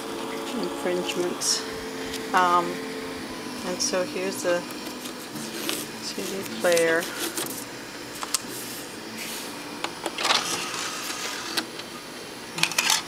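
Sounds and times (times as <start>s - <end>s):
cd door whirring and rattling: 0.0s - 13.0s.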